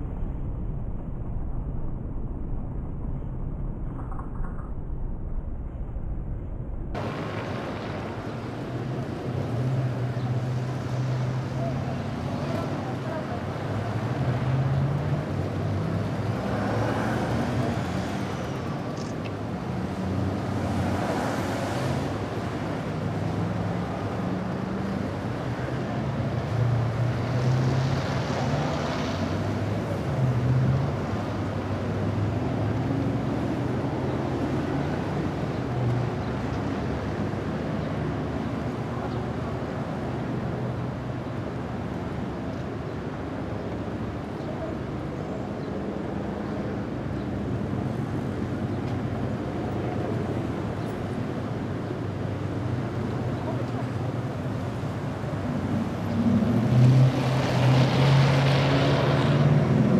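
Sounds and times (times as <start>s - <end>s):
vehicles driving past: 0.0s - 59.9s.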